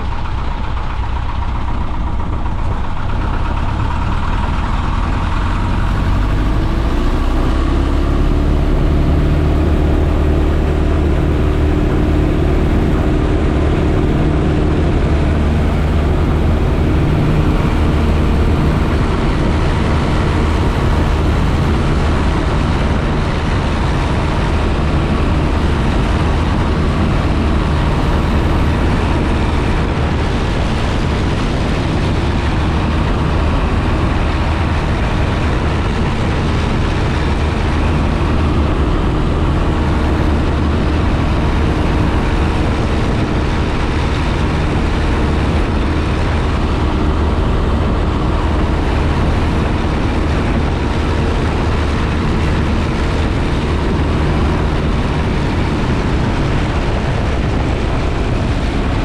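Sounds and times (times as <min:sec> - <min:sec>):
higher hum: 0:00.0 - 0:59.0
light aircraft engine from cockpit: 0:00.0 - 0:59.0.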